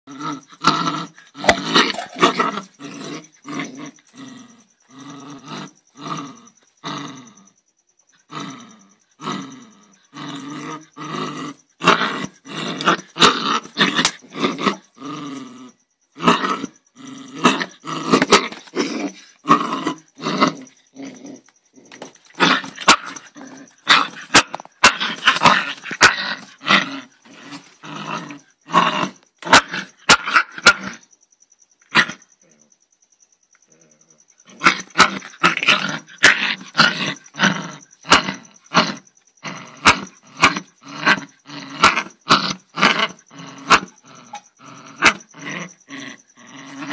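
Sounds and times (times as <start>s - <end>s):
dog growling and barking: 0.1s - 7.6s, 8.2s - 31.1s, 31.9s - 32.7s, 33.7s - 46.9s.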